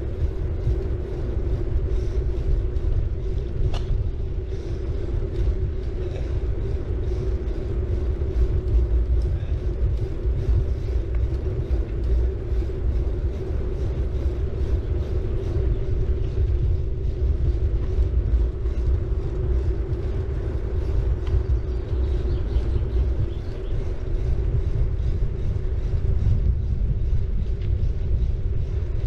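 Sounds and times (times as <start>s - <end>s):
steady hum: 0.0s - 29.0s
wind on microphone: 0.0s - 29.0s.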